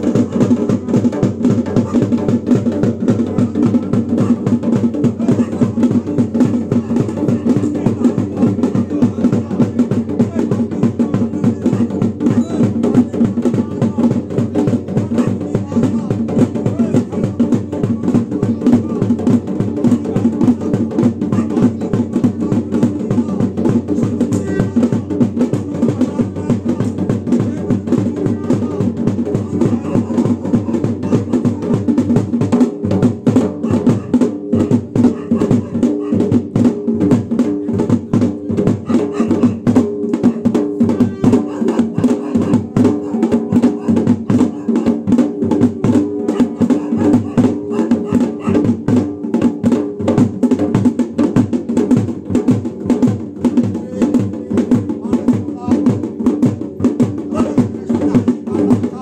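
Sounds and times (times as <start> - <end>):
drum in fast rhythm: 0.0 - 59.0.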